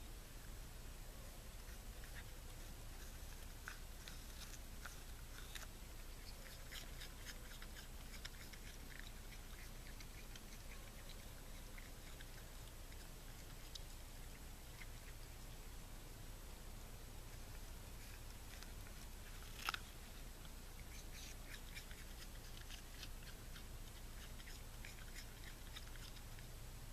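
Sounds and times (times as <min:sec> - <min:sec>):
raccoon chewing apple: 0:00.3 - 0:26.9.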